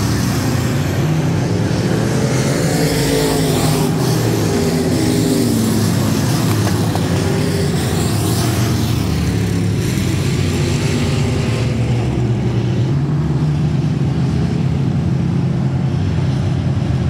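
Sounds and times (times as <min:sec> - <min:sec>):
race car engine droning: 0:00.0 - 0:17.0.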